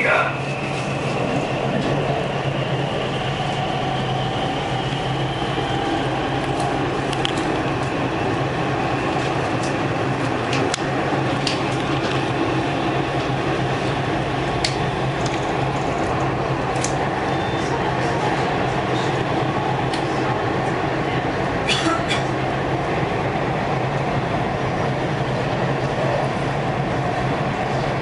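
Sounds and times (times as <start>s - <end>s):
train rolling noise: 0.0s - 28.0s
train running gear hum and whine: 0.0s - 28.0s.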